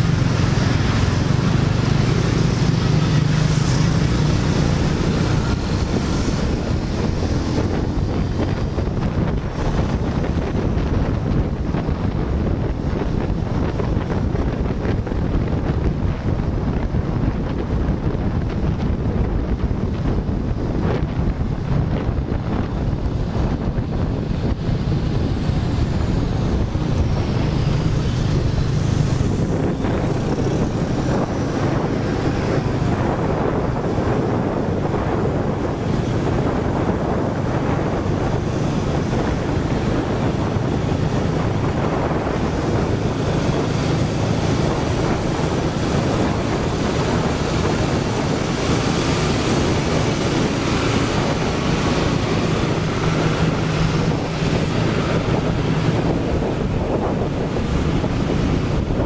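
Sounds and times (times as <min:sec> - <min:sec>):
tractor diesel engine running: 0:00.0 - 0:59.0
traffic noise: 0:00.0 - 0:59.0
wind on microphone: 0:00.0 - 0:59.0.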